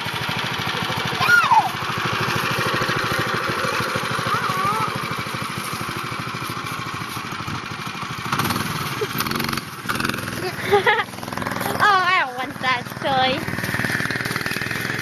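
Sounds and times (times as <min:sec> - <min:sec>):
small engine puttering: 0:00.0 - 0:15.0.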